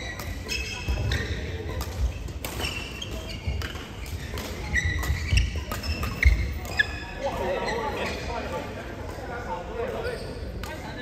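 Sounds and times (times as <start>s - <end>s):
shoes squeaking on court floor: 0.0s - 8.6s, 9.8s - 11.0s.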